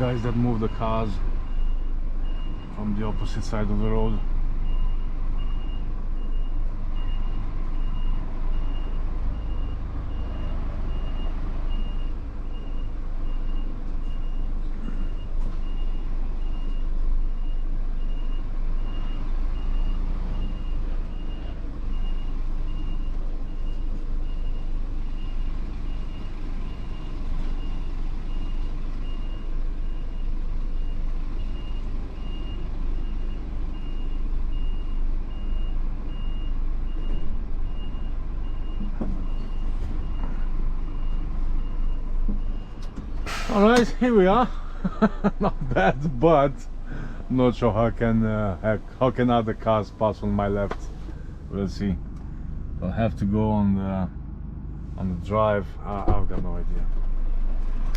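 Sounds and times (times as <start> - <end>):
truck reversing alarm beeping: 0.0 - 53.0
truck engine running: 0.0 - 57.9.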